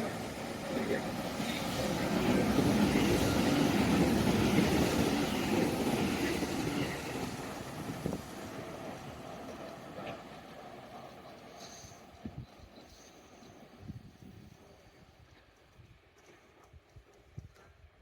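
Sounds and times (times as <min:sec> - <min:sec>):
train running past: 0:00.0 - 0:16.6.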